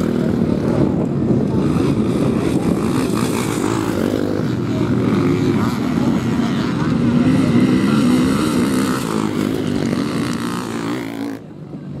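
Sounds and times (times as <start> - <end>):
motocross motorcycle engines: 0.0 - 12.0.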